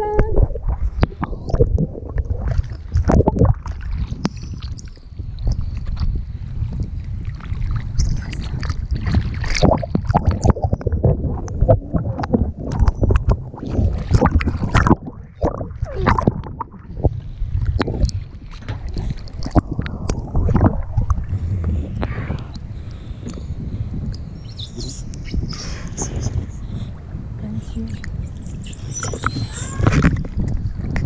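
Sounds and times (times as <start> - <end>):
low rumble of water: 0.0 - 31.0
water splashing and gurgling: 0.0 - 31.0.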